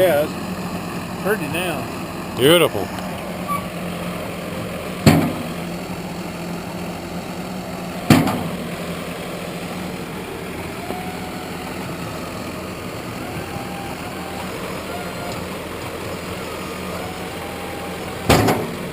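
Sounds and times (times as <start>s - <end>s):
sawmill engine idling: 0.0s - 18.9s.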